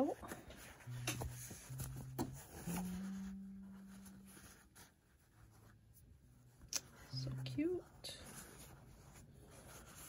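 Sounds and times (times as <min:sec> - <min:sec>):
cloth rustling and rubbing: 0:00.0 - 0:10.0.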